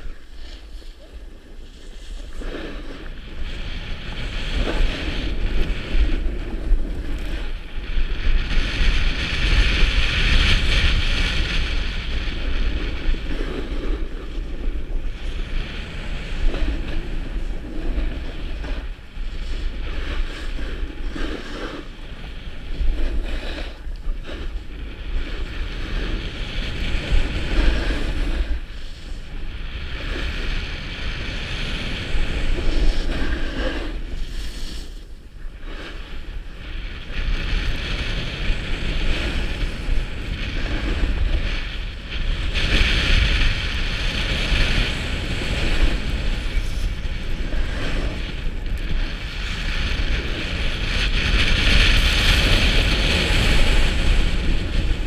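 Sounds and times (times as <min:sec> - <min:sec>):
skis hissing on snow: 0:00.0 - 0:10.0, 0:15.3 - 0:41.6, 0:42.3 - 0:55.0
wind buffeting microphone: 0:00.0 - 0:55.0.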